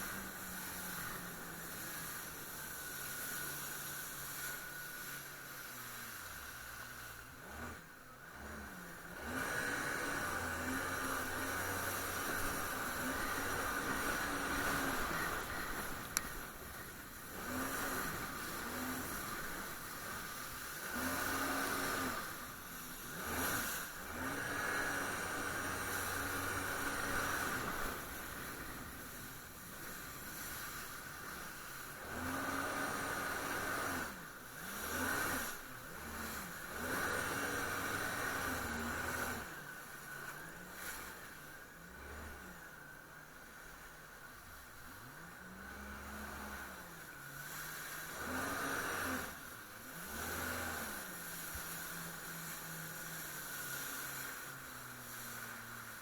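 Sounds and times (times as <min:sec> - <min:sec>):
rush of wind and water: 0:00.0 - 0:44.0, 0:44.6 - 0:56.0
jet ski engine running: 0:00.0 - 0:56.0.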